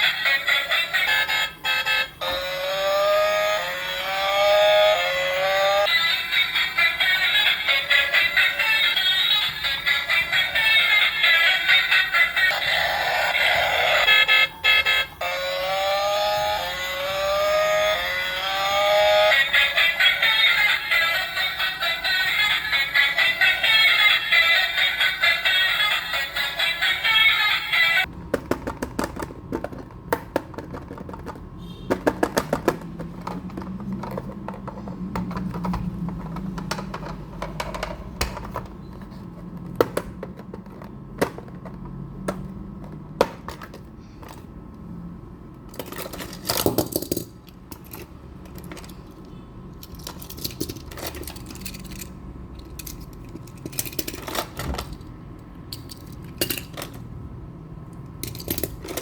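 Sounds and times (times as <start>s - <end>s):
toy trucks clicking and rattling: 0.0s - 44.6s, 45.6s - 57.2s, 57.8s - 59.0s.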